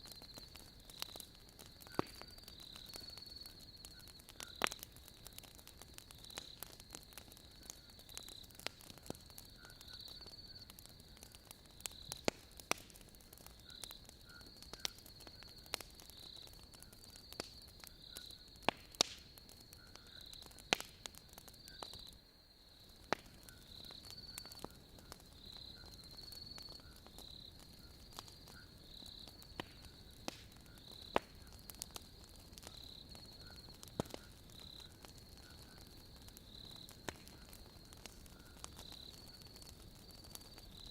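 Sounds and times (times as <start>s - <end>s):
logs crackling and popping in fire: 0.0s - 40.9s
night insects trilling: 0.0s - 40.9s.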